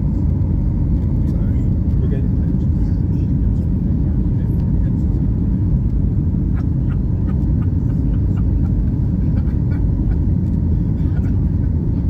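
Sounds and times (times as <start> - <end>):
airliner engine rumble in cabin: 0.0 - 12.0.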